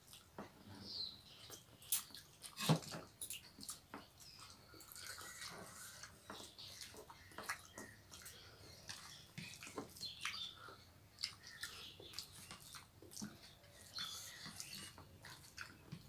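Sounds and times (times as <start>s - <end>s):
wet chewing and mouth smacks: 0.0s - 0.4s, 1.4s - 16.0s.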